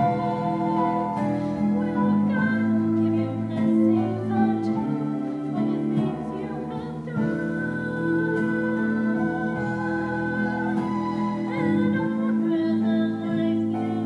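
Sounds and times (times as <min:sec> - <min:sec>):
instrumental accompaniment: 0:00.0 - 0:14.0
woman singing: 0:00.0 - 0:14.0.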